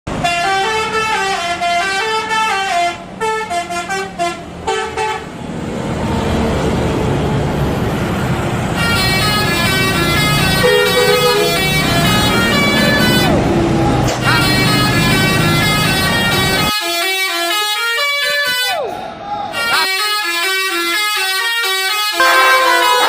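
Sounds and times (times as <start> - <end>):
multi-tone bus horn tune: 0.1 - 5.4, 8.8 - 18.7, 19.6 - 23.0.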